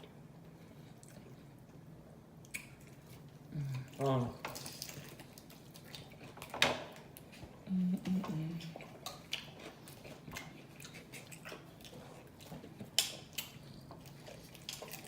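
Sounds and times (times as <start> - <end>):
chewing and wet lip-smacking: 0.6 - 1.8, 2.4 - 15.0.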